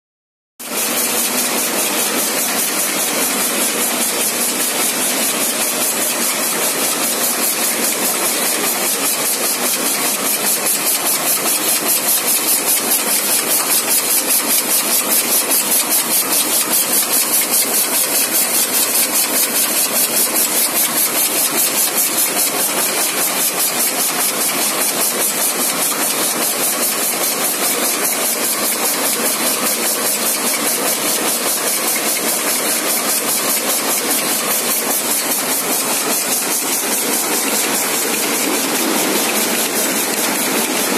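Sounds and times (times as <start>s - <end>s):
compression machine running: 0.6s - 40.9s.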